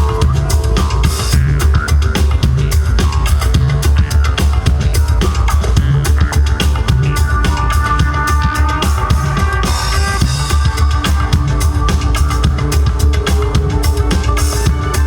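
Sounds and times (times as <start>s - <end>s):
cymbals: 0.0s - 15.0s
heavy pulsing bass line: 0.0s - 15.0s.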